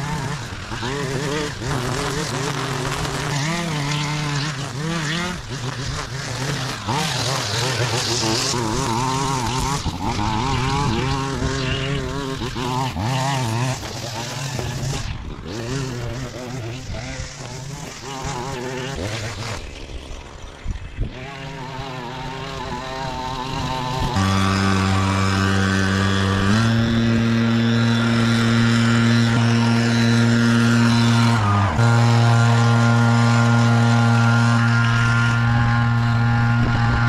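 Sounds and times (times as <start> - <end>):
small engine running: 0.0 - 37.0.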